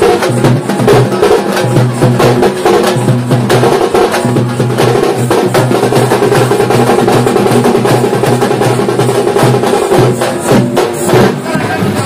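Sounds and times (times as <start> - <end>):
frame drums fast rhythm: 0.0 - 12.0.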